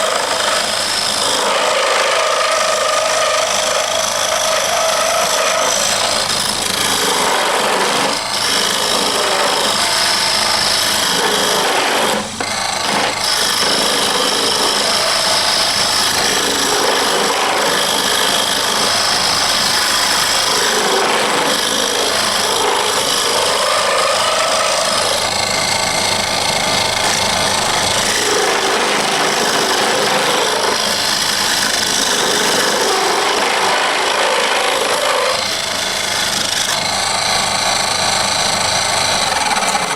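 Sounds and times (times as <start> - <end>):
tool scraping spinning wood: 0.0 - 39.9
wood lathe motor hum: 0.0 - 39.9.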